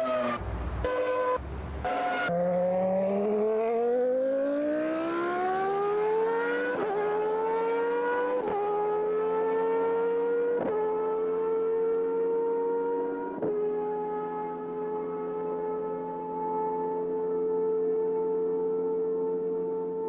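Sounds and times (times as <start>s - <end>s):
racing car accelerating hard: 0.0s - 20.0s.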